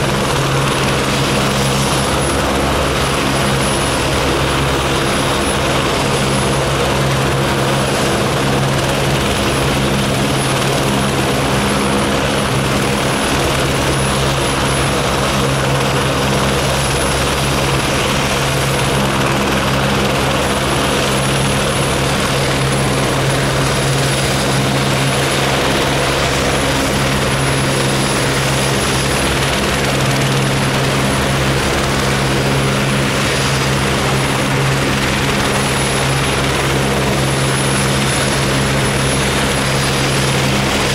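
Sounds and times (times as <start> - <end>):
helicopter engines and rotors droning: 0.0 - 40.9.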